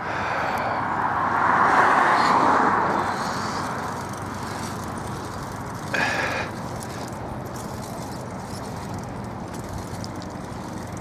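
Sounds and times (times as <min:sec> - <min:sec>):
bicycle tyres rolling on asphalt: 0:00.0 - 0:11.0.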